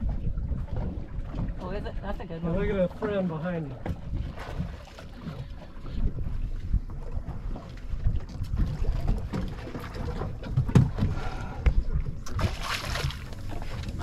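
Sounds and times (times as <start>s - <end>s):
water around a kayak: 0.0s - 14.0s
wind rumbling on microphone: 0.0s - 14.0s.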